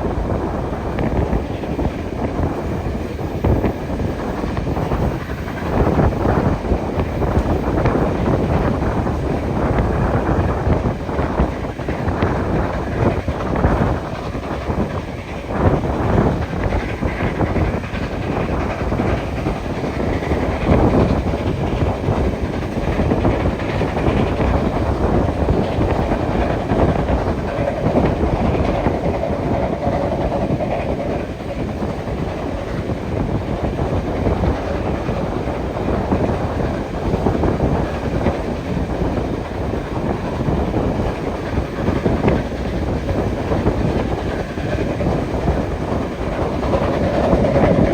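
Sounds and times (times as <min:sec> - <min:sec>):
train carriages rumbling: 0:00.0 - 0:47.9
wheels clicking over rail joints: 0:00.1 - 0:47.9.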